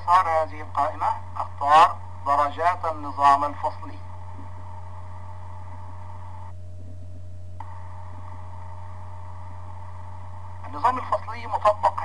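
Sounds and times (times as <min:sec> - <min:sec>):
background hiss: 0:00.0 - 0:12.0
faint steady tone: 0:00.0 - 0:12.0
low electrical hum: 0:00.0 - 0:12.0.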